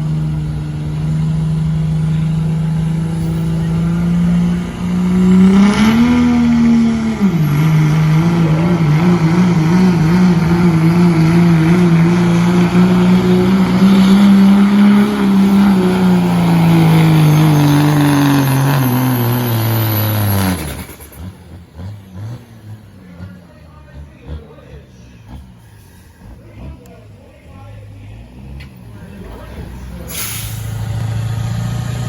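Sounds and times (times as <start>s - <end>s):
diesel engine at full throttle: 0.0s - 32.0s.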